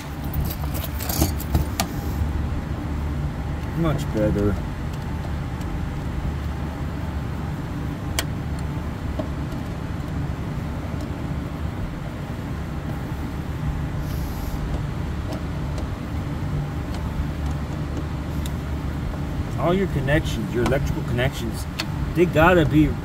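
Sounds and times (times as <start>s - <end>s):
refrigeration machinery humming: 0.0s - 23.0s.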